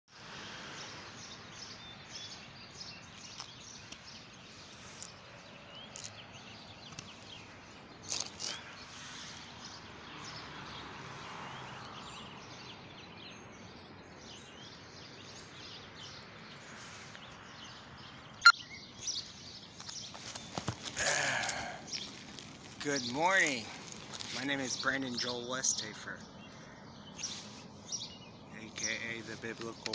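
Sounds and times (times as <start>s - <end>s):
birds chirping: 0.8s - 29.9s.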